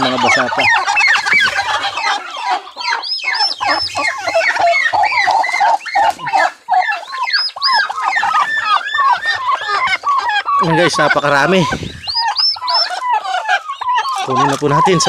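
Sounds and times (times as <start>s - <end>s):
turkey chicks peeping: 0.0s - 15.0s
turkey hens clucking: 0.0s - 15.0s.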